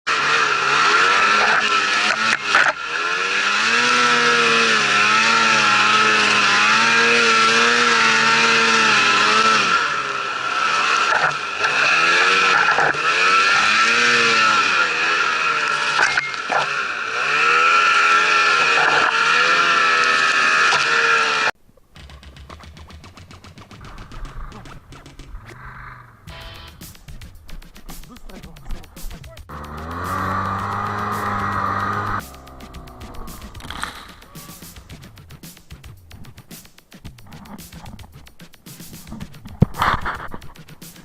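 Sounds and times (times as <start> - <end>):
snowmobile engine revving: 0.1 - 41.0.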